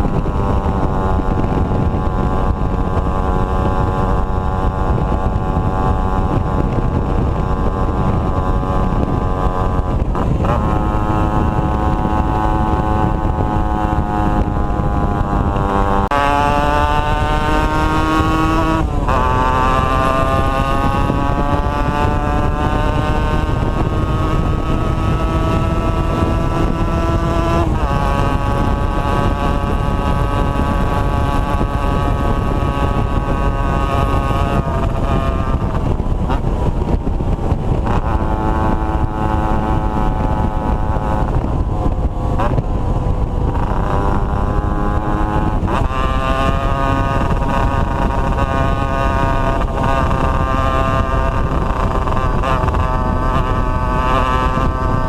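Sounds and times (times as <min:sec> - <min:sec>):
low wind rumble: 0:00.0 - 0:55.0
two-stroke motorcycle engine: 0:00.0 - 0:55.0.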